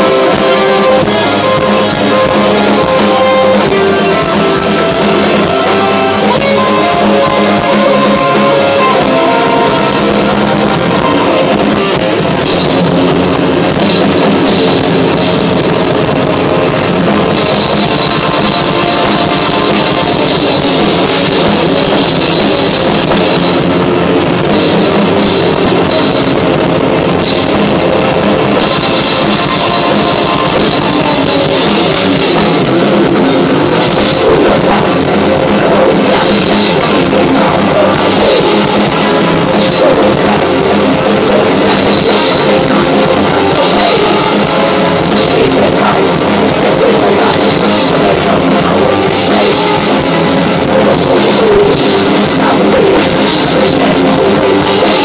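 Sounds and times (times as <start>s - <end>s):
distorted electric guitars: 0.0s - 55.0s
drum kit: 0.0s - 55.0s.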